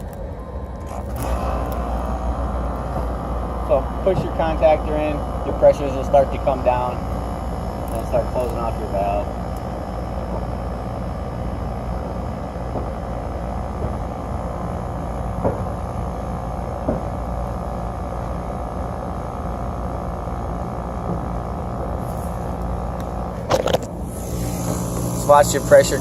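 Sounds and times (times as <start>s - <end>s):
compressor humming: 0.0s - 26.0s
condenser fan blowing: 0.0s - 26.0s.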